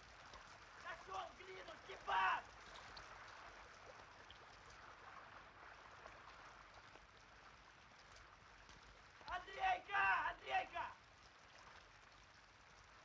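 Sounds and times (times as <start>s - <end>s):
faint hiss of rain: 0.0s - 13.0s.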